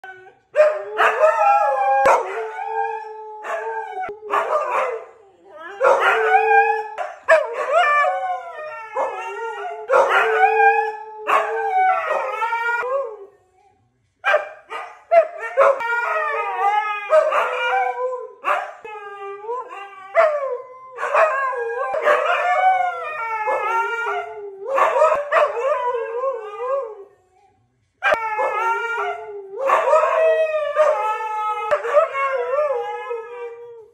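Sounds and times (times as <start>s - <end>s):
dogs howling: 0.0s - 13.3s, 15.1s - 27.1s, 28.0s - 33.9s.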